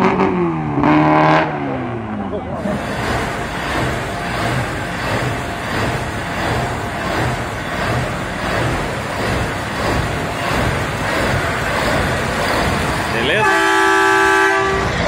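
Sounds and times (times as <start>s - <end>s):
loud engine running: 0.0s - 15.0s.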